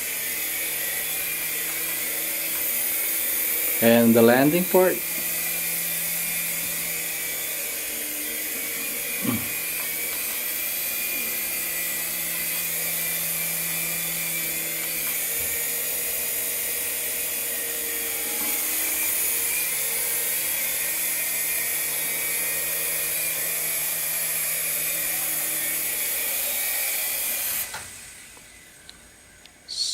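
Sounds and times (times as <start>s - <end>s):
toy helicopter motor whining: 0.0s - 29.9s.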